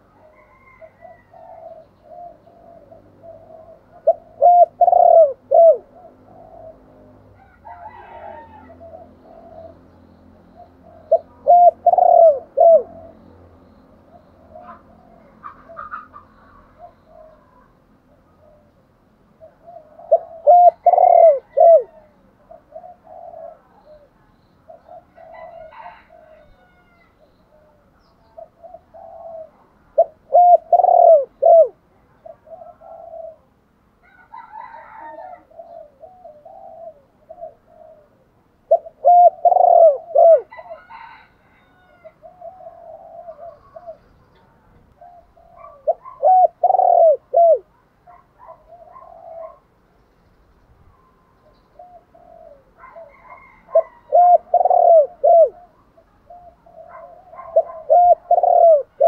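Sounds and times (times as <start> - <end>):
dove cooing: 0.0 - 13.4, 14.1 - 49.8, 50.9 - 59.0.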